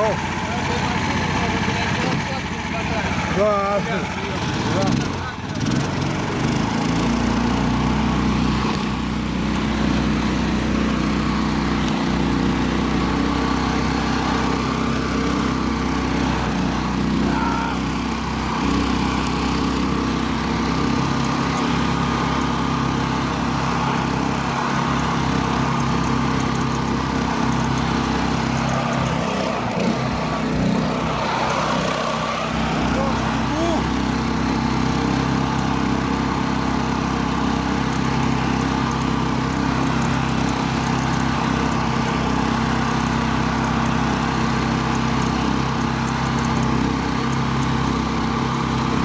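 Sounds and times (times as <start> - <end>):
small engine running under load: 0.0 - 49.0.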